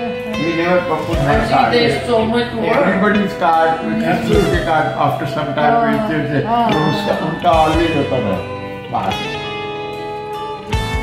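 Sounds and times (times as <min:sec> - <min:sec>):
guitar chord ringing: 0:00.0 - 0:11.0.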